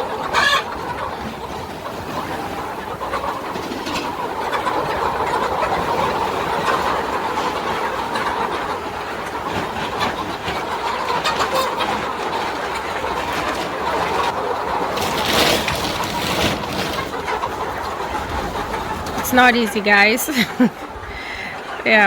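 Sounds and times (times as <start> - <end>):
flock of chickens calling: 0.0 - 22.0.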